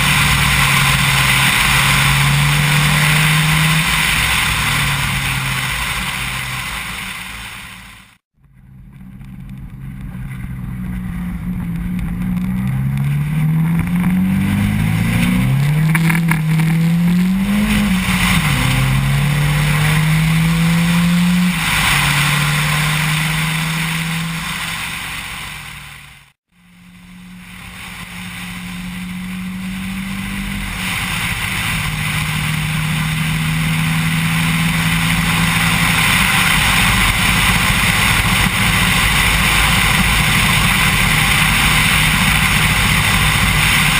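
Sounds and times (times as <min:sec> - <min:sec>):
car engine accelerating: 0:00.0 - 0:43.9
wind and road hiss: 0:00.0 - 0:43.9.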